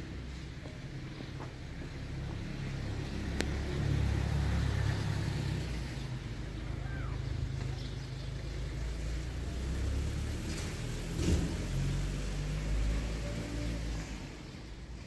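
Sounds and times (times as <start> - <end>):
car passing by: 2.0 - 15.0.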